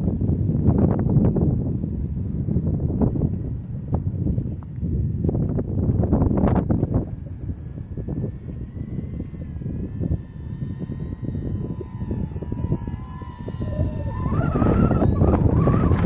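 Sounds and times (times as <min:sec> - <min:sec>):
model plane motor whining: 0:00.0 - 0:16.0
wind noise on microphone: 0:00.0 - 0:16.0.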